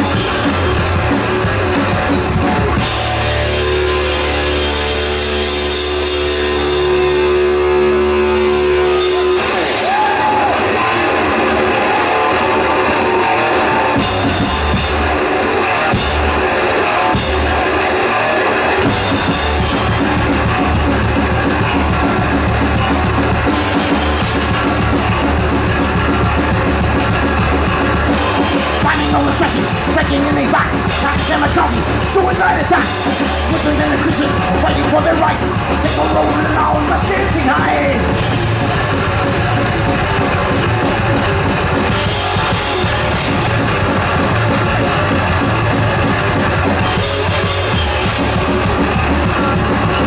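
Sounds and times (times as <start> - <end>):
metal band playing: 0.0 - 50.0.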